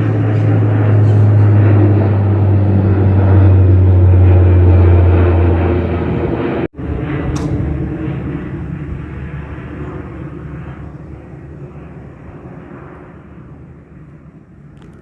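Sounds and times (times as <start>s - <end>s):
propeller plane drone: 0.0s - 15.0s.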